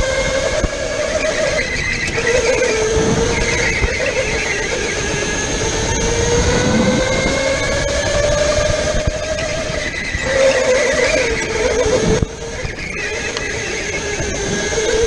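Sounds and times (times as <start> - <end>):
go-kart motor whining: 0.0 - 15.0
tyres squealing on concrete: 0.6 - 7.8, 9.0 - 15.0.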